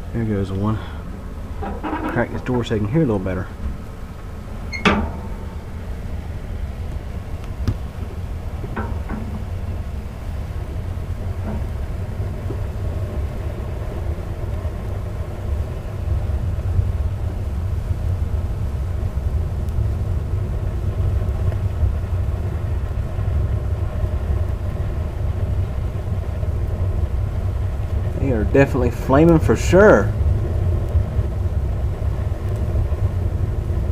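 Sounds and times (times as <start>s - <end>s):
fire flames rumbling: 0.0s - 33.9s
faint fire snap: 0.4s - 33.9s.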